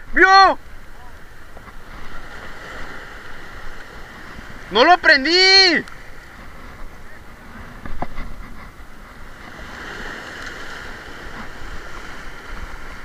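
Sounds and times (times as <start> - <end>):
surf breaking over rocks: 0.0 - 13.0.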